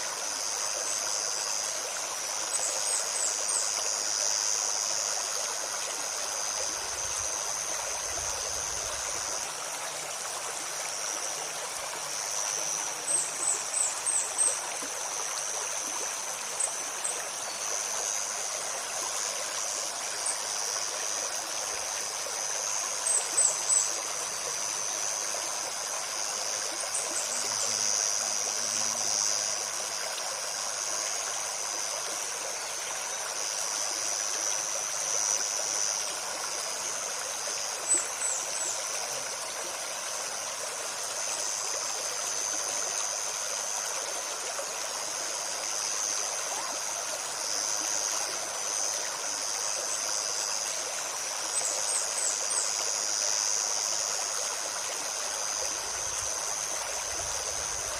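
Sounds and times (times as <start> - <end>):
stream babbling over stones: 0.0 - 57.9.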